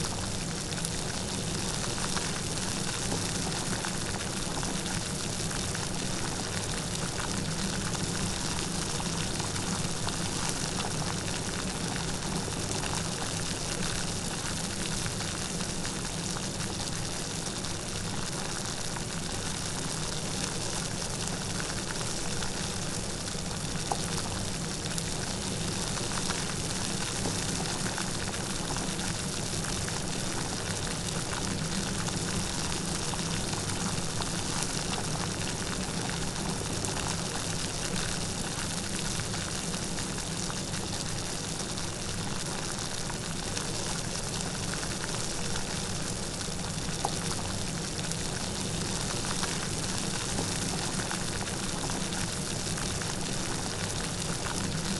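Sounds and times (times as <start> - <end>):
light rain pattering: 0.1 - 54.9.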